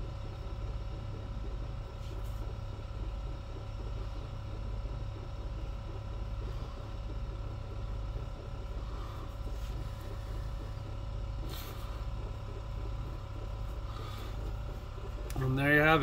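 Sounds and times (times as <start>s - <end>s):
scribe tool buzzing hum: 0.0s - 16.0s.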